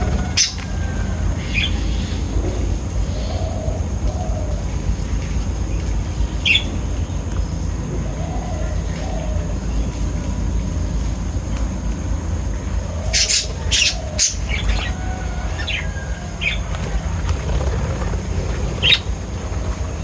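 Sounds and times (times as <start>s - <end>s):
sharp bird calls: 0.0s - 11.0s, 12.4s - 20.0s
low rumble: 0.0s - 20.0s.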